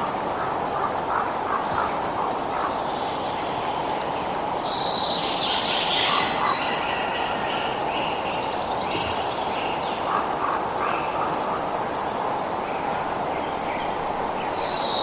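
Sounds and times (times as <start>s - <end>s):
songbirds singing: 0.1s - 15.0s.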